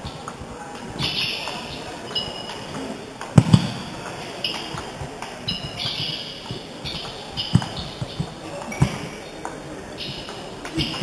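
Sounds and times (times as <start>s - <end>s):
shoes squeaking on wooden floor: 0.0s - 11.0s.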